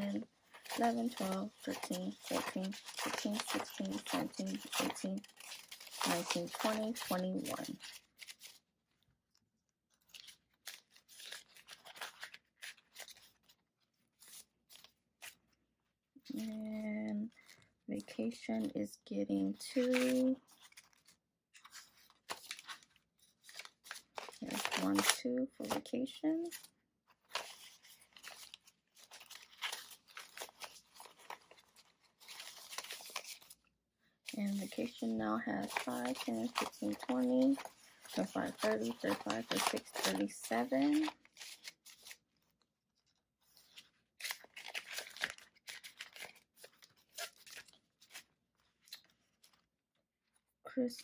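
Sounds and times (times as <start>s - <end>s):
paper bills rustling in plastic: 0.0s - 8.6s, 9.9s - 15.5s, 19.6s - 33.6s, 34.3s - 42.2s, 43.4s - 49.7s.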